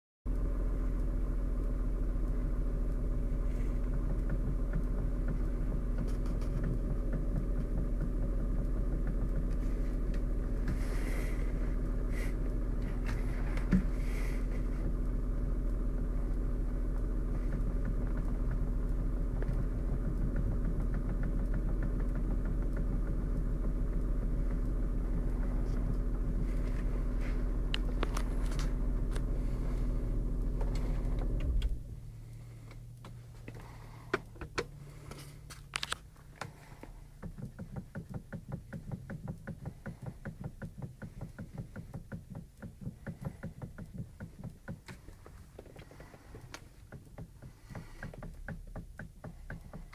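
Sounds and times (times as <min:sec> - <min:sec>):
car engine rumbling: 0:00.3 - 0:49.9
faint knocks in steering: 0:03.2 - 0:49.9.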